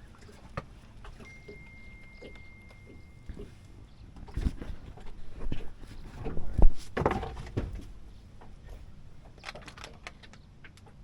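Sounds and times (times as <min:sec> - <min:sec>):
rustling: 0:00.3 - 0:10.4.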